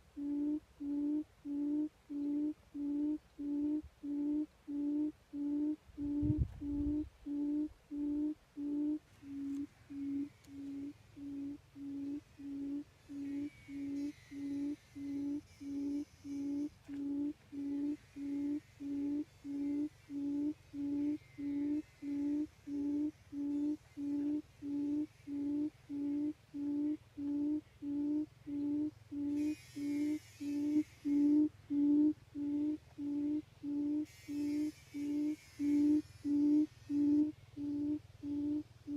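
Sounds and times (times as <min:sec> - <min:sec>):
buttonquail low hooting call: 0:00.0 - 0:38.9.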